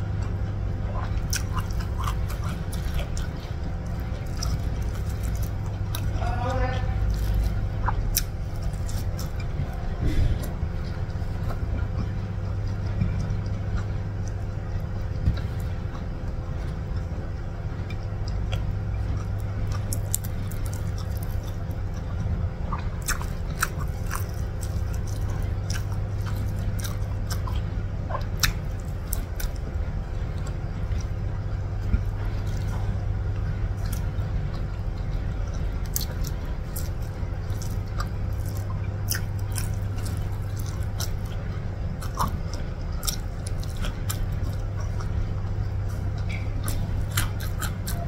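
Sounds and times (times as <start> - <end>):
person chewing and eating: 0.0 - 48.0
steady low hum: 0.0 - 48.0.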